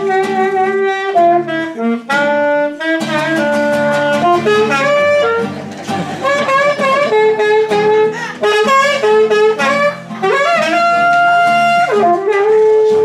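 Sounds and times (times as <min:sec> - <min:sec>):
alto saxophone melody: 0:00.0 - 0:13.0
classical guitar accompaniment: 0:00.0 - 0:13.0.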